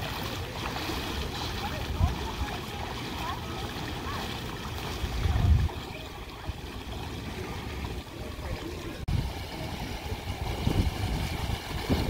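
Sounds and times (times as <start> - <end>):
water sloshing around legs: 0.0 - 12.0.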